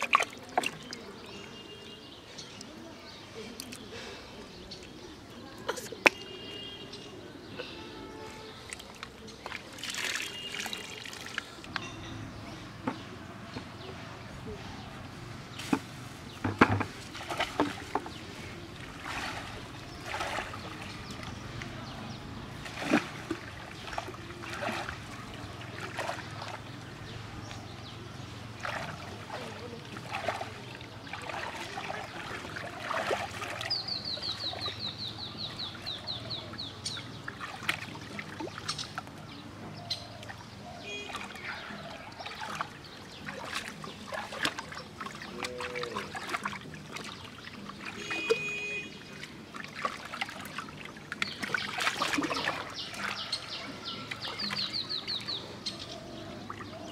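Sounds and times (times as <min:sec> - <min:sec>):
water splashing and trickling: 0:00.0 - 0:56.9.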